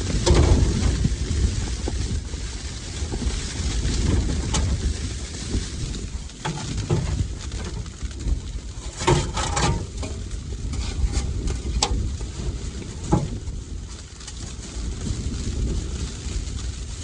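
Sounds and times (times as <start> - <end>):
blizzard wind rumbling on microphone: 0.0 - 17.0.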